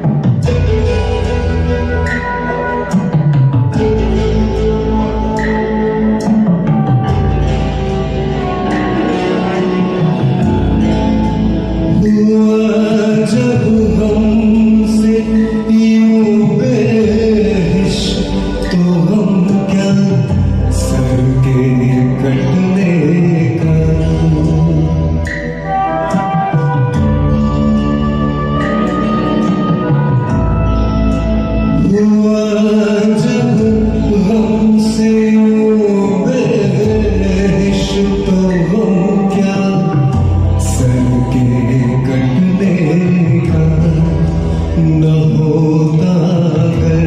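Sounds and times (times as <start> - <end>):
held melody notes: 0.0 - 47.0
low bass line: 0.0 - 47.0.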